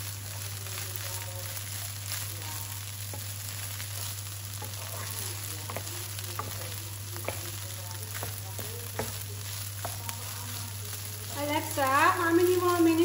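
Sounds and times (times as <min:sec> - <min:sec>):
rice and onions sizzling in oil: 0:00.0 - 0:13.0
wooden spatula scraping a pan: 0:01.4 - 0:13.0.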